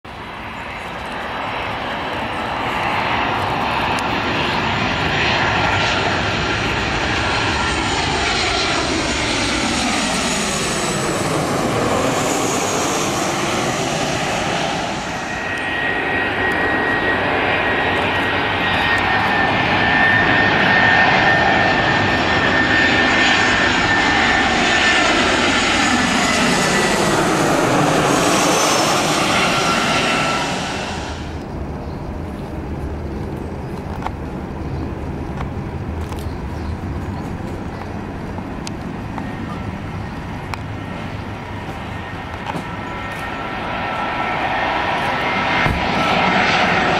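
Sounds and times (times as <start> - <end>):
jet airliner passing overhead: 0.1 - 46.9.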